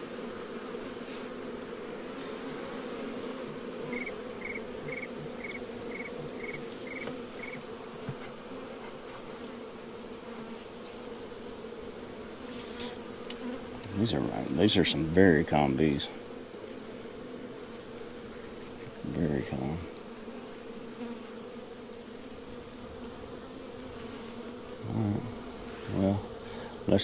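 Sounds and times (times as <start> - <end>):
bee swarm buzzing: 0.0 - 27.0.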